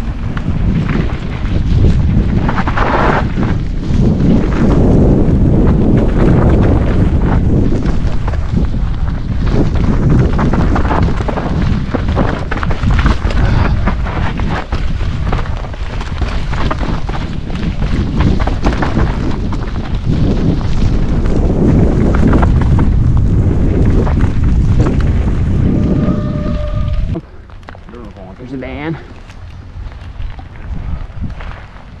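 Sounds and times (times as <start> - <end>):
mountain bike rattling on dirt trail: 0.0 - 32.0
wind buffeting microphone: 0.0 - 32.0.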